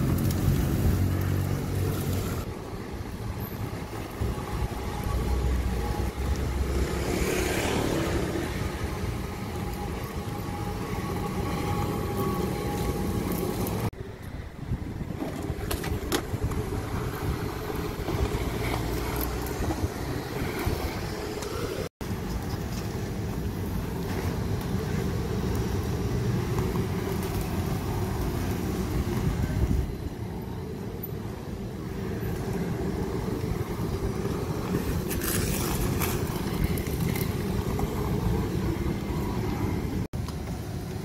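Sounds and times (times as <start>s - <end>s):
street vacuum suction running: 0.0s - 41.0s.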